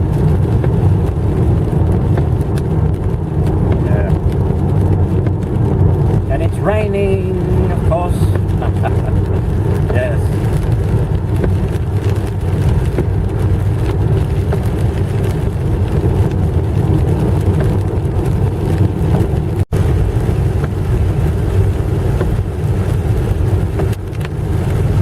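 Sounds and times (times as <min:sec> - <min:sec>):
car driving on wet road: 0:00.0 - 0:25.0
heavy rain: 0:00.0 - 0:25.0.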